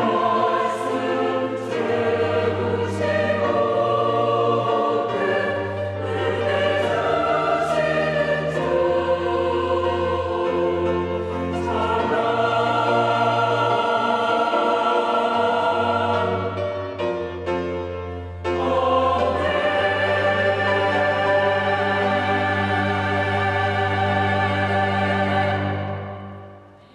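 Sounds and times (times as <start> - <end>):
choir singing a hymn: 0.0 - 26.9.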